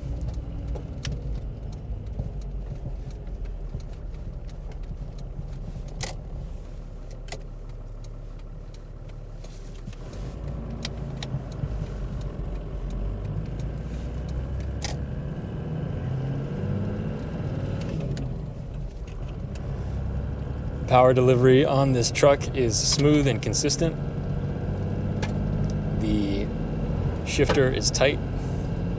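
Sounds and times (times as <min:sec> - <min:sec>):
diesel engine droning in cab: 0:00.0 - 0:28.9.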